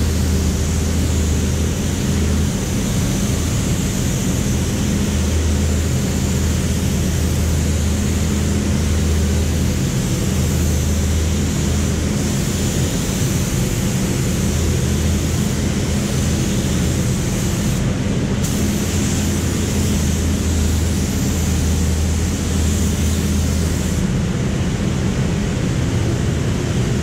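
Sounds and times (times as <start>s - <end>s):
spray gun hissing: 0.0s - 24.2s
booth fans humming: 0.0s - 27.0s.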